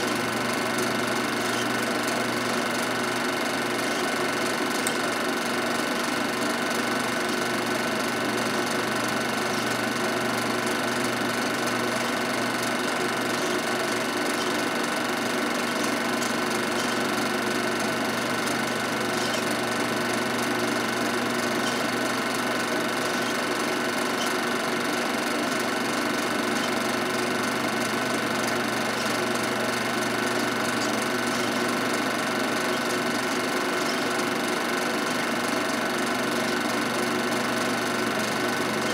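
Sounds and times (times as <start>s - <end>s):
film projector motor hum: 0.0s - 38.9s
film transport clatter: 0.4s - 38.9s.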